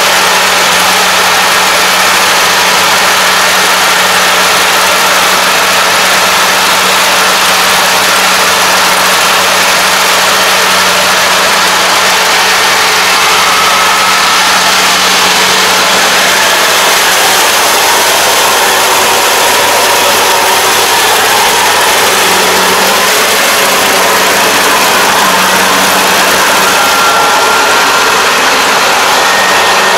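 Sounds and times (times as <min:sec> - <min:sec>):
combine harvester running: 0:00.0 - 0:29.9.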